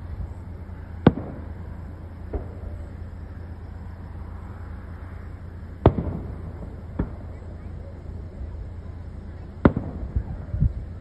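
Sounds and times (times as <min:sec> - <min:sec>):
fireworks bangs with echo: 0:00.0 - 0:04.1, 0:05.0 - 0:10.9
steady low rumble: 0:00.0 - 0:11.0.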